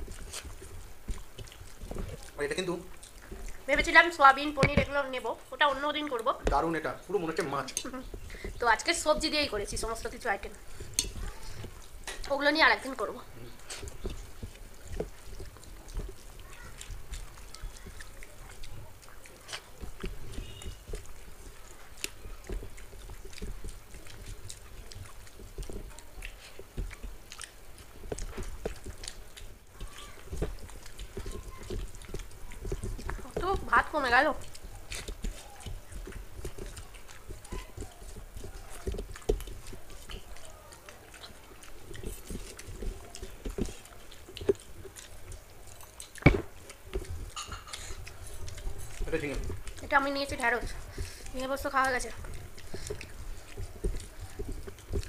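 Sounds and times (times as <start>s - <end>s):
fingers mixing rice on steel plates: 0.0s - 55.0s
people chewing and smacking: 0.0s - 55.0s.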